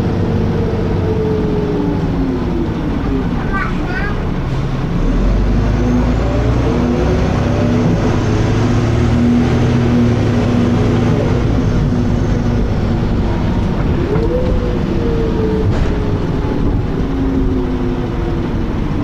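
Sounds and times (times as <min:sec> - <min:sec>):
bus engine droning with whine: 0:00.0 - 0:19.0.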